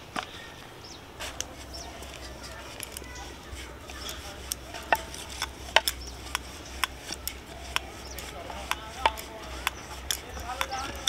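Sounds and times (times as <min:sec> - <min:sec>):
rolling pin on wooden board: 0:01.2 - 0:11.0
wooden clicks and knocks: 0:01.2 - 0:11.0.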